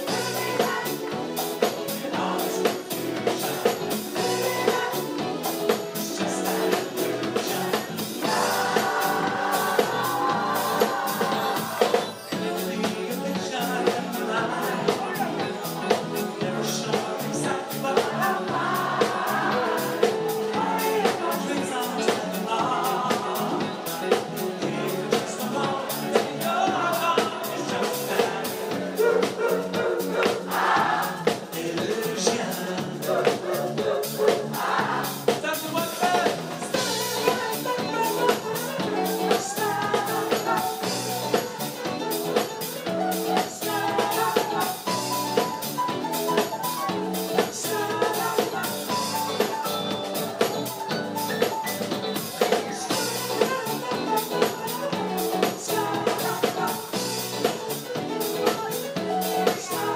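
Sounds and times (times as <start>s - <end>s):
man singing: 0.0s - 30.4s, 31.1s - 34.7s, 35.3s - 51.1s, 52.0s - 59.9s
drum kit beat: 0.0s - 59.9s
electric bass: 0.0s - 59.9s.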